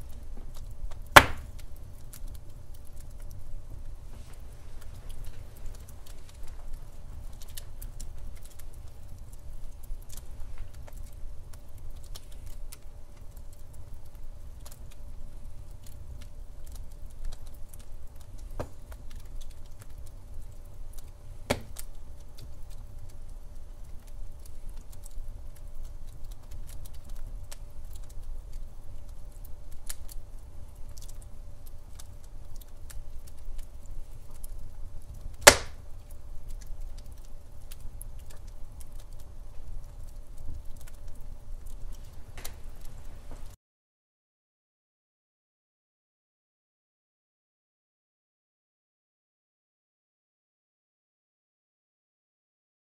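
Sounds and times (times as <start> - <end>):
fire crackles and pops: 0.0 - 43.6
low rumble of flames: 0.0 - 43.6.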